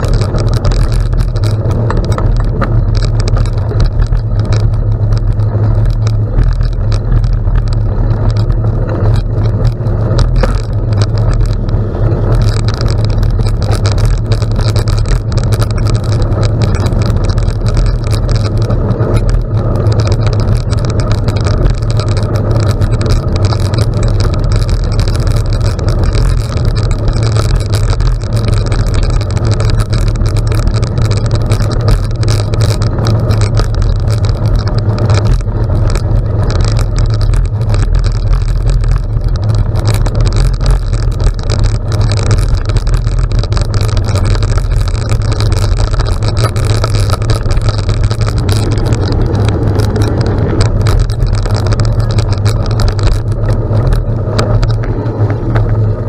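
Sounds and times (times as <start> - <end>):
bicycle tyres crunching on gravel: 0.0 - 56.0
wind rumble on microphone: 0.0 - 56.0.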